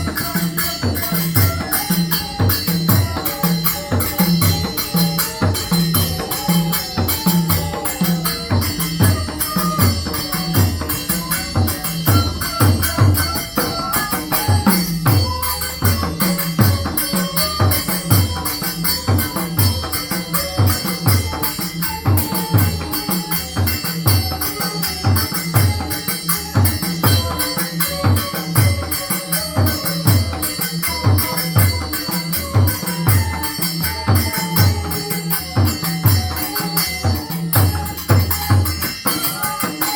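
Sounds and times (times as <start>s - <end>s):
drum playing rhythmic pattern: 0.0s - 39.9s
faint flute tune: 0.0s - 39.9s
small cymbals jingling: 0.0s - 39.9s.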